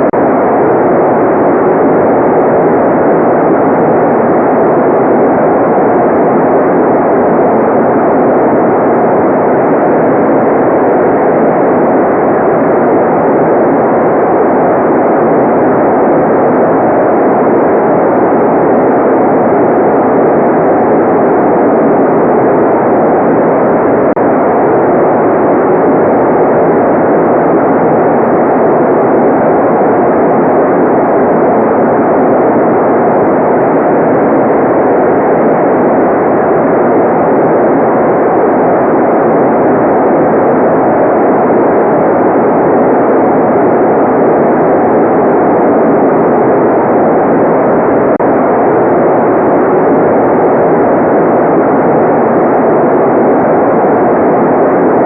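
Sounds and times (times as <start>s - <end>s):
muffled white noise: 0.0s - 55.0s.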